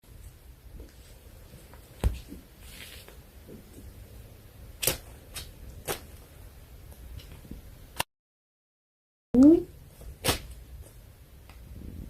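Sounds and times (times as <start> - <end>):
low room noise: 0.0 - 8.0, 9.4 - 12.0.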